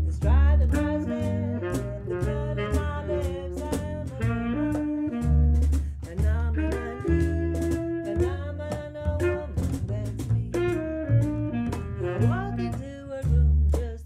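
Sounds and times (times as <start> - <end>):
plucked double bass: 0.0 - 14.0
woman singing: 0.0 - 14.0.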